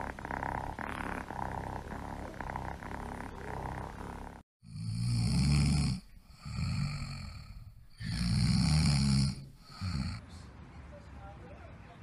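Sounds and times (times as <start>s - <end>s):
puppy snoring: 0.0s - 10.2s.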